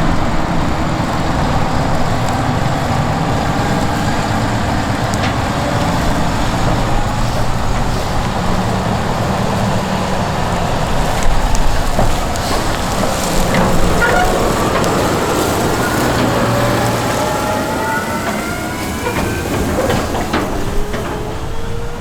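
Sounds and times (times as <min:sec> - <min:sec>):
diesel machinery engine drone: 0:00.0 - 0:22.0.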